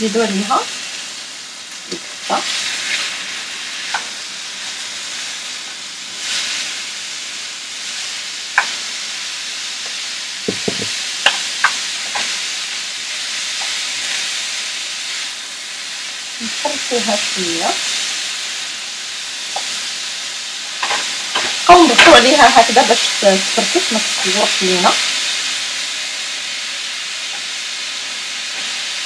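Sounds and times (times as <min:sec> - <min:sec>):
onions and beef sizzling in pan: 0:00.0 - 0:29.0.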